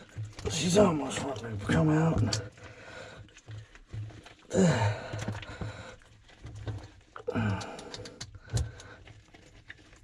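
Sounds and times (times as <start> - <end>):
clicks and knocks of handling: 0.0 - 10.0.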